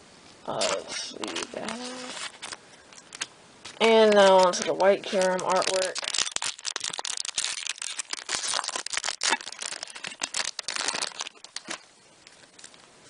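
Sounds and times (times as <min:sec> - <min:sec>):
foil wrapper crinkling and tearing: 0:00.5 - 0:12.9.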